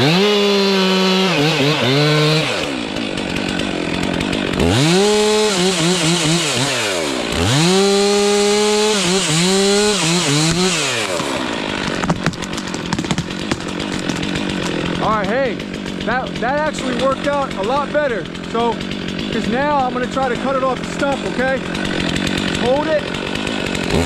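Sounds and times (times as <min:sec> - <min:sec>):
chainsaw cutting wood: 0:00.0 - 0:24.0
chainsaw revving: 0:00.0 - 0:24.0.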